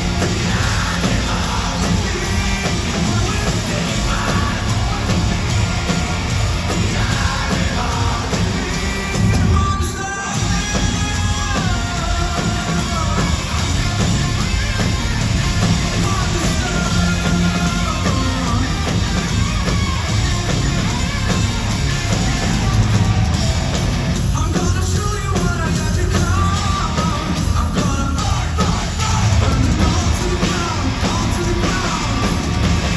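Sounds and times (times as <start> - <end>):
heavy drums: 0.0 - 32.9
rock band playing live: 0.0 - 32.9
sung lead vocal: 0.0 - 32.9.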